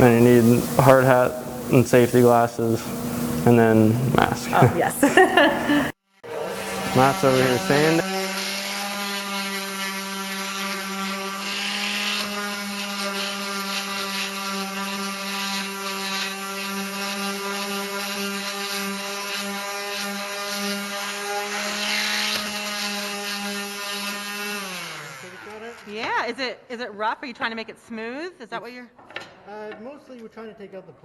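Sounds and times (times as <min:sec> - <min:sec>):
orbital sander on wood: 0:00.0 - 0:26.2.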